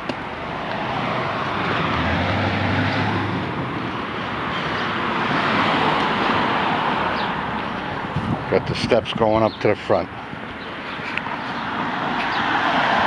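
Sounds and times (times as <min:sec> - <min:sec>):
road traffic tyres and engines: 0:00.0 - 0:13.0.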